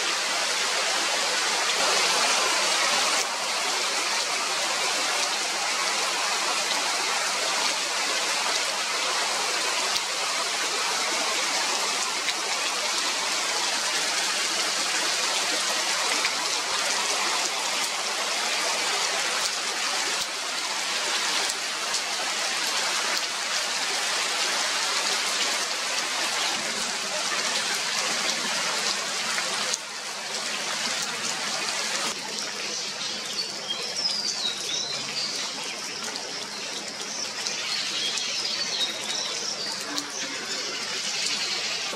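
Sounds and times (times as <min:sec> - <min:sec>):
rain falling on water and leaves: 0:00.0 - 0:41.9.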